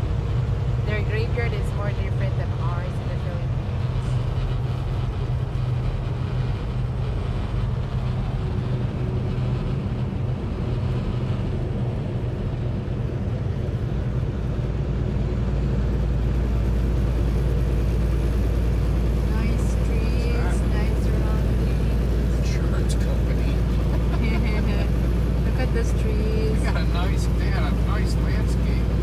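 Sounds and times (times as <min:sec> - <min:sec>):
truck engine drone and road noise: 0:00.0 - 0:29.0.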